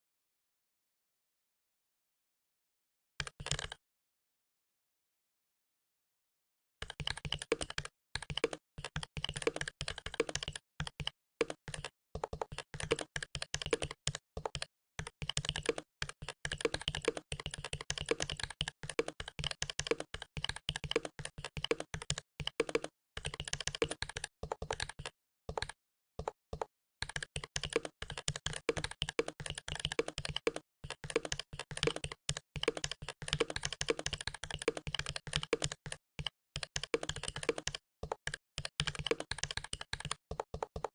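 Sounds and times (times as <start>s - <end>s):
mechanical keyboard typing: 3.2s - 3.8s, 6.8s - 40.9s.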